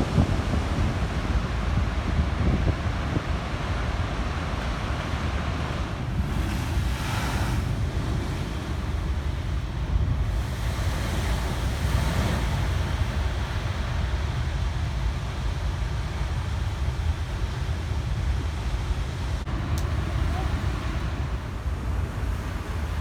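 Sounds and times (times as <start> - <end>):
big waves breaking: 0.0 - 23.0
wind rumbling on microphone: 0.0 - 23.0.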